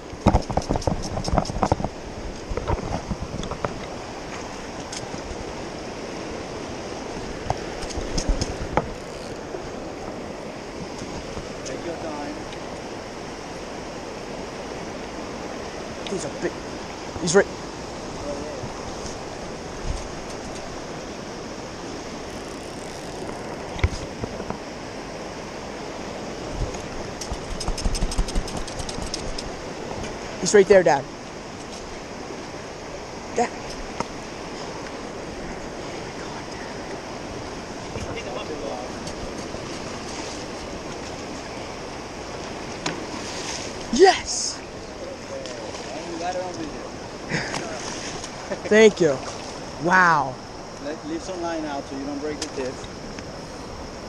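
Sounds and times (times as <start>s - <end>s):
river water rushing over rapids: 0.0s - 54.0s.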